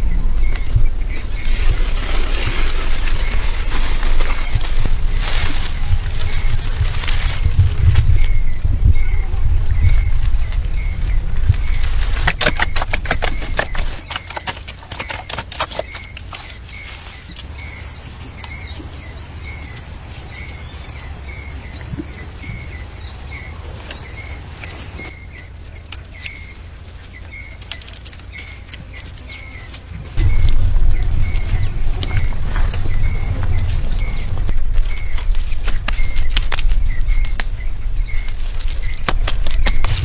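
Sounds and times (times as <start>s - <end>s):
bird chirping: 0.0s - 40.0s.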